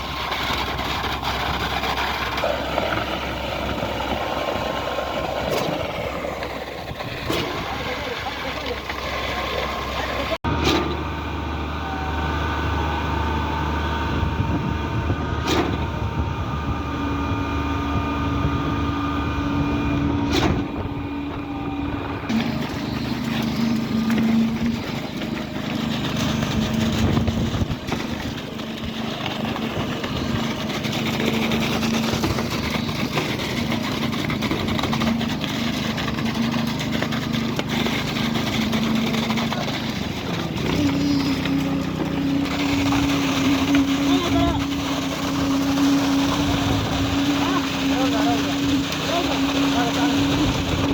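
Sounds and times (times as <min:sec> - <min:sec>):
truck engine running: 0:00.0 - 0:50.9.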